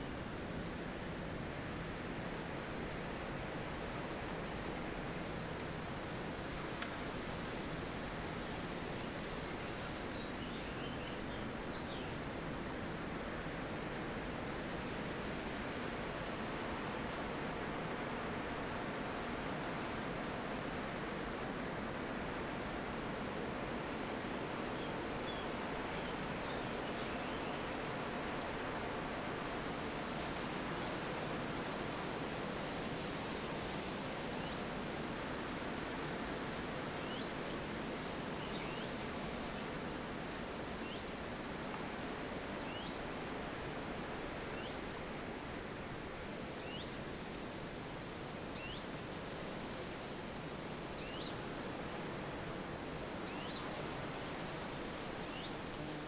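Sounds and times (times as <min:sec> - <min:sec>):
wind through trees: 0:00.0 - 0:56.0.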